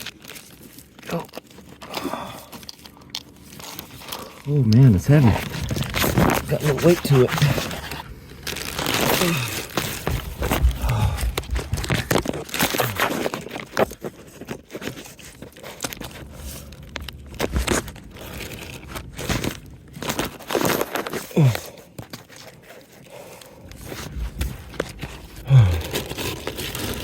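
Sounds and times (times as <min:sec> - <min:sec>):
honeycomb crunching and tearing: 0:00.0 - 0:27.0.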